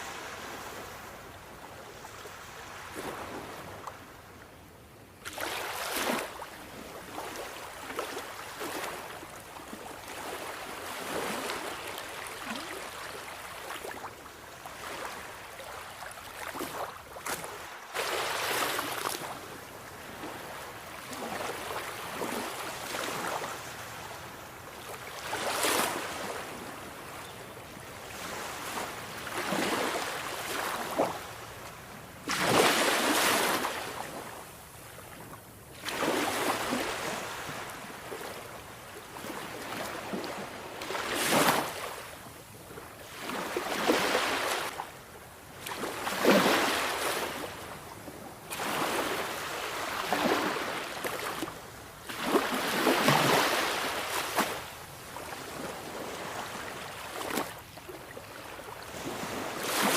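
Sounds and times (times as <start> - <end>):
sea waves breaking on shore: 0.0 - 4.3, 5.2 - 59.9.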